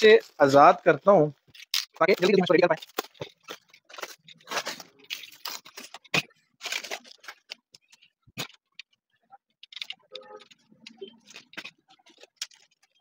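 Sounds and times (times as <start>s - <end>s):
plastic wrapping crinkling and tearing: 1.3s - 9.0s, 9.7s - 13.0s.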